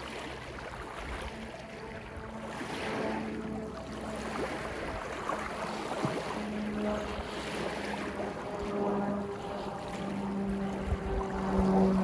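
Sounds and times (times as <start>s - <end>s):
small waves lapping over rocks: 0.0s - 12.0s.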